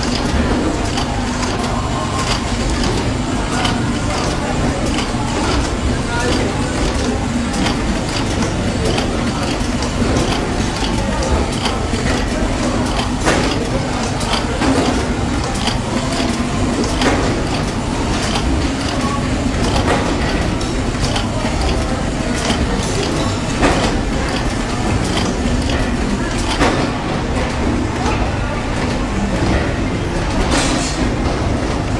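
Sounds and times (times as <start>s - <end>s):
steady mechanical hum: 0.0s - 31.9s.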